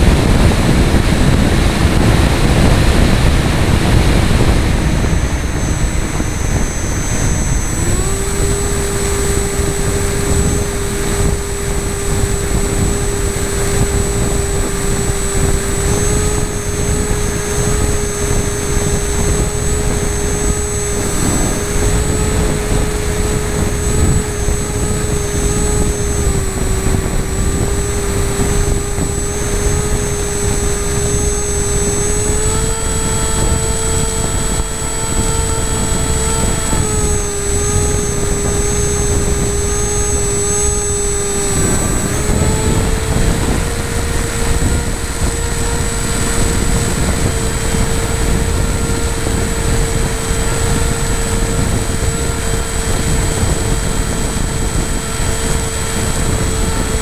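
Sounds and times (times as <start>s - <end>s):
motor and propeller whine: 0.0s - 57.0s
wind rushing over microphone: 0.0s - 57.0s.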